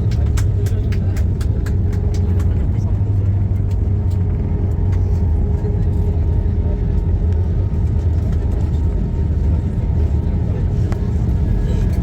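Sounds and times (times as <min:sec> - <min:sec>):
airliner engine and airflow rumble: 0:00.0 - 0:12.0.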